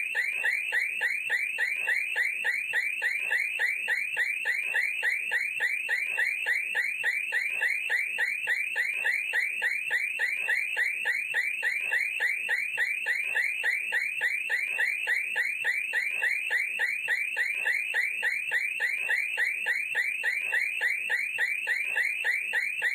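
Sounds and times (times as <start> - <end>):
electronic alarm siren warbling: 0.0 - 22.9.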